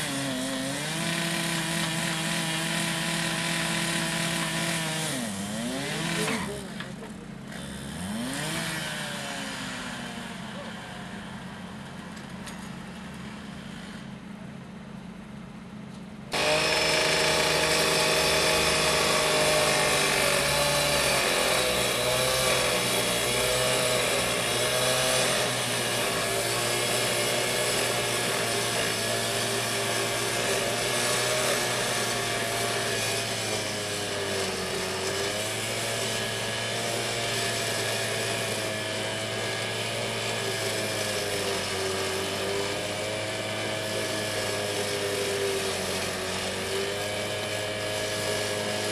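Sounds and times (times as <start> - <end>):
power tool hissing and whining: 0.0 - 11.7, 16.3 - 48.9.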